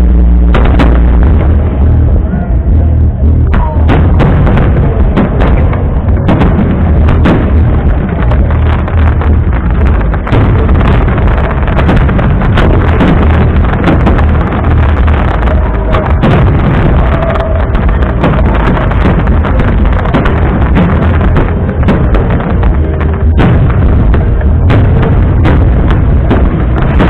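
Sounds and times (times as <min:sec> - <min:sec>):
fireworks booms and cracks: 0:00.0 - 0:27.0
low rumble: 0:00.0 - 0:27.0.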